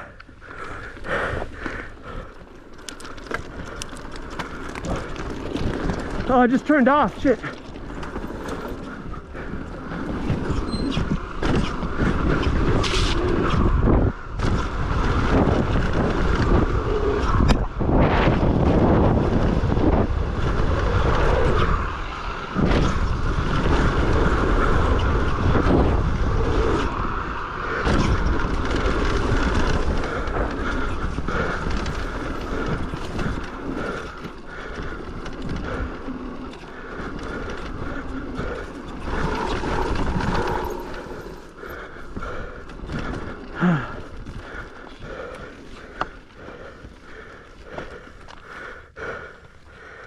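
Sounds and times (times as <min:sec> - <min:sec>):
wind rushing over microphone: 0:00.0 - 0:48.3
bike tyre noise and rattles: 0:00.0 - 0:50.0.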